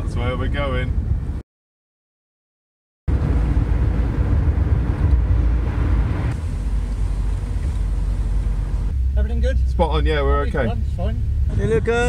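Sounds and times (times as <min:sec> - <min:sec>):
car cabin road rumble: 0:00.0 - 0:01.4, 0:03.1 - 0:12.0.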